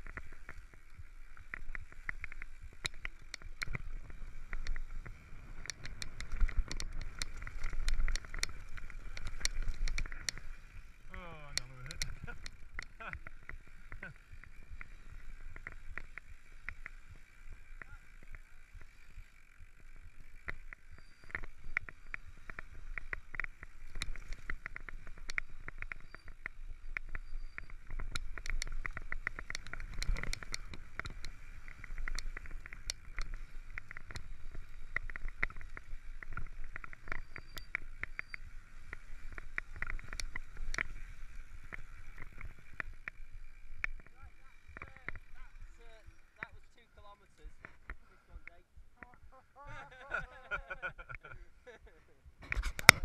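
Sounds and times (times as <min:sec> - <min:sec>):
bike jolt: 0:00.0 - 0:46.8
bike clicking and rattling: 0:00.0 - 0:49.4, 0:52.4 - 0:53.0
tyres rumbling on gravel trail: 0:00.0 - 0:51.8.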